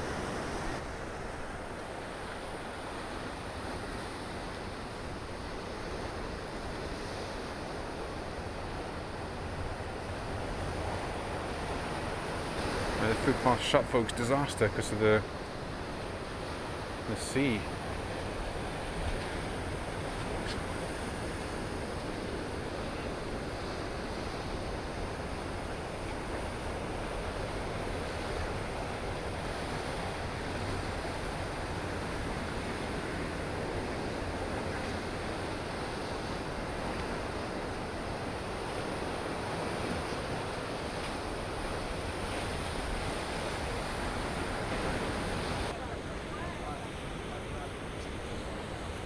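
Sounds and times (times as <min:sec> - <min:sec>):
stormy sea surging against shore: 0:00.0 - 0:49.0.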